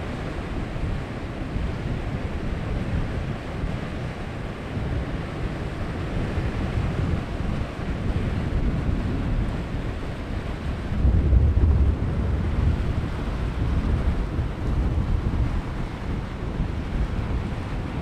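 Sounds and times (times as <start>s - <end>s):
surf washing over sand and rocks: 0.0s - 18.0s
wind rumbling on microphone: 0.0s - 18.0s.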